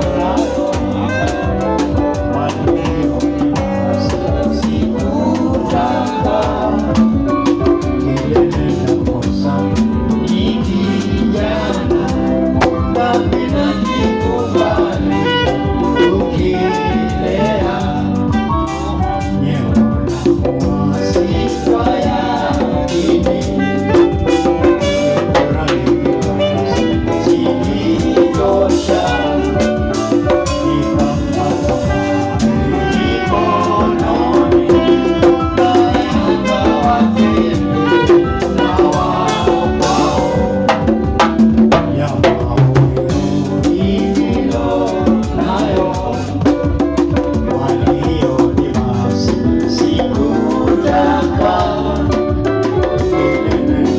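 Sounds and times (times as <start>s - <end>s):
conga drums: 0.0s - 53.9s
live band playing dance music: 0.0s - 53.9s
saxophone: 0.0s - 53.9s.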